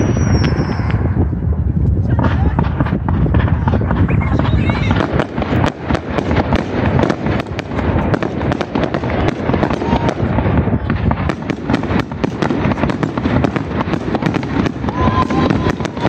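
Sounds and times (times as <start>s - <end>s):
fireworks booms rumbling: 0.0s - 16.0s
fireworks crackling pops: 0.0s - 16.0s.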